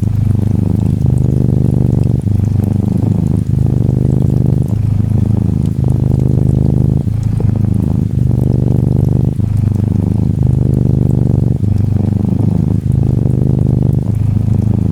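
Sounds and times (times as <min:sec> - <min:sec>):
faint rain pattering: 0:00.0 - 0:14.9
kitten purring: 0:00.0 - 0:14.9.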